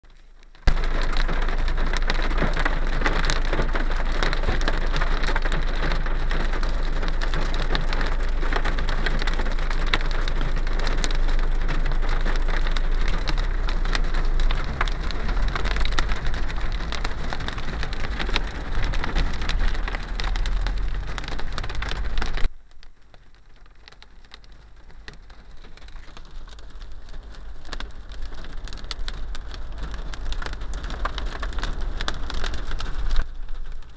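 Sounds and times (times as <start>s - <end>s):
hailstones ticking on a car: 0.1s - 33.9s
rain hissing on a car: 0.1s - 33.9s.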